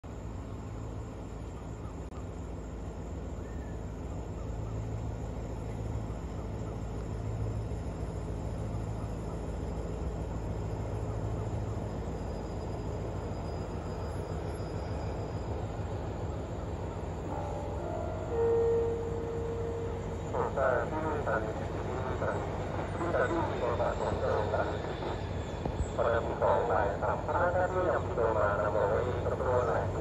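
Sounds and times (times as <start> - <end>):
diesel locomotive engine hum: 0.0 - 30.0.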